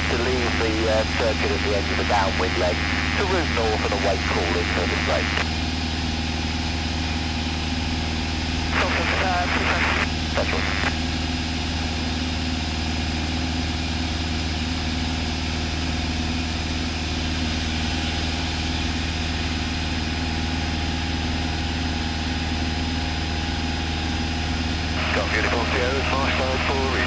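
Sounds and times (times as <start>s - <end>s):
aircraft engine idling: 0.1s - 27.0s.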